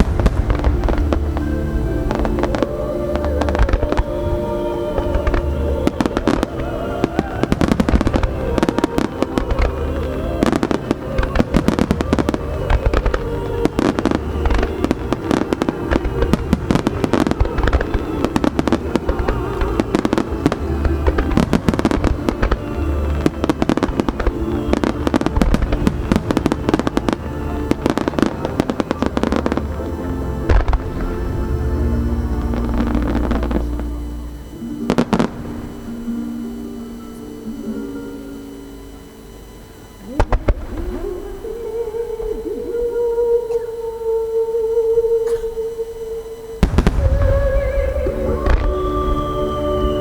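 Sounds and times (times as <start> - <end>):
fireworks bursting and crackling: 0.0 - 42.9, 46.5 - 50.0
music playing: 0.0 - 50.0.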